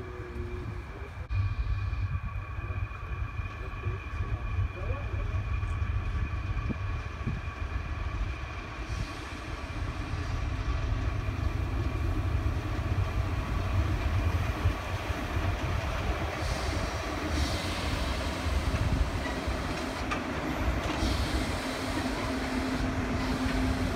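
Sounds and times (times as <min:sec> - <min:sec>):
electric locomotive rumble and whine: 0:00.0 - 0:23.9.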